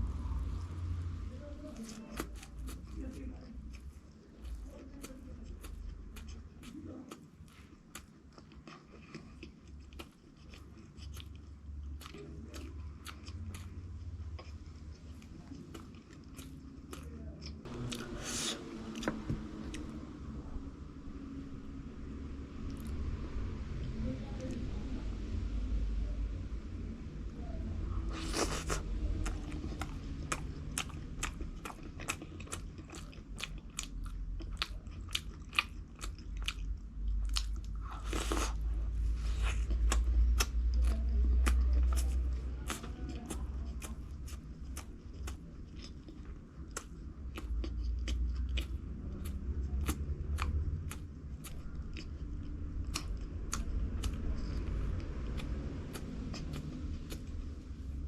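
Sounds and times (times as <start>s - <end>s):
person chewing crunchy food: 1.8s - 19.9s, 28.1s - 58.0s.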